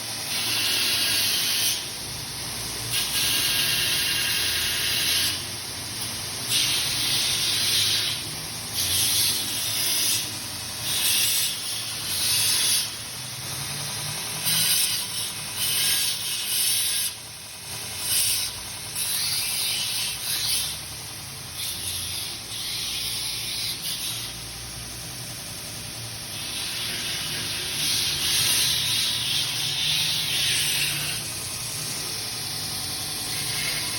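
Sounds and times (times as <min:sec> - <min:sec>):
belt grinder motor hum: 0:00.2 - 0:25.6, 0:26.3 - 0:33.9
metal grinding on abrasive belt: 0:02.8 - 0:24.4, 0:26.3 - 0:33.9.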